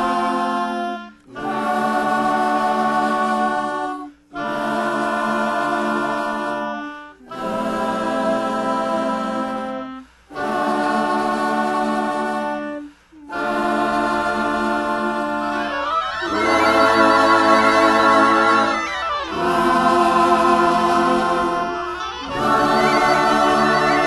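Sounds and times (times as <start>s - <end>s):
choir holding long chords: 0.0s - 24.0s.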